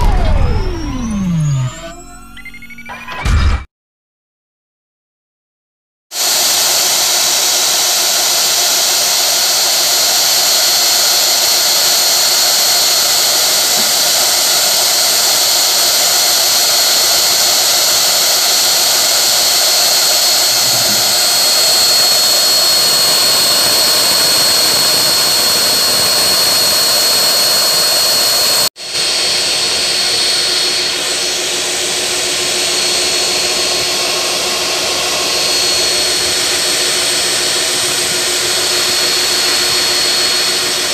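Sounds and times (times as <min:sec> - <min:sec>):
machinery with high whine: 0:00.0 - 0:03.6, 0:06.2 - 0:40.9.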